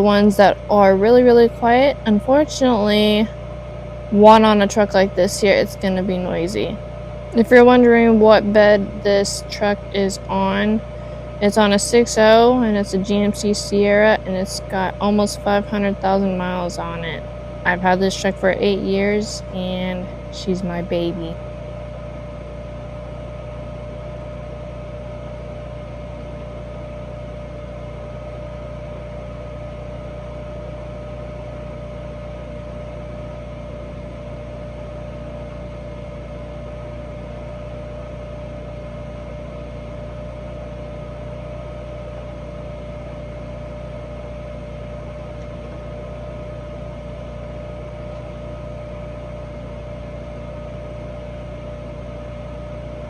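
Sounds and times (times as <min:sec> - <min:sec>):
engine-driven welder running: 0:00.0 - 0:53.0.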